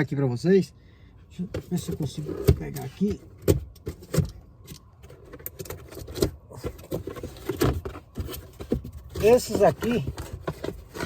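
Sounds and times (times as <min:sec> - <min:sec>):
loudspeakers being handled: 0:01.5 - 0:11.0.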